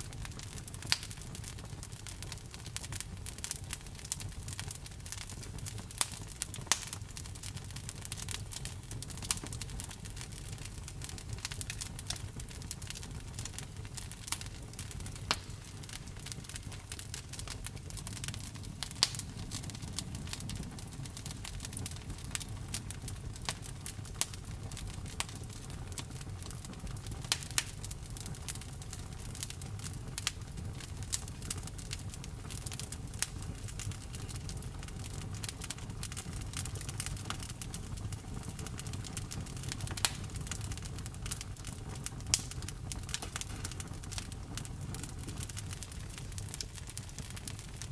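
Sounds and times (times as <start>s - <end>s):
burning wood crackling and popping: 0.0s - 47.9s
fire flame rumbling: 0.0s - 47.9s.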